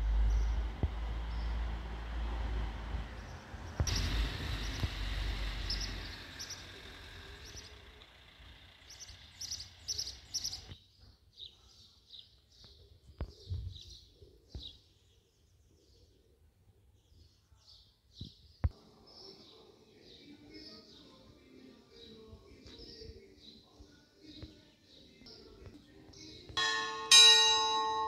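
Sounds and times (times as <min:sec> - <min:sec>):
small birds chirping: 0:00.0 - 0:01.9, 0:02.9 - 0:27.0.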